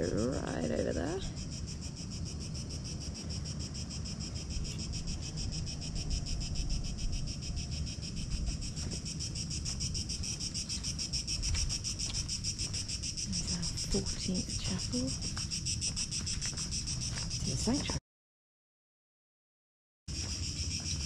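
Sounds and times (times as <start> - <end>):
insects chirring: 0.0 - 18.0, 20.1 - 21.0.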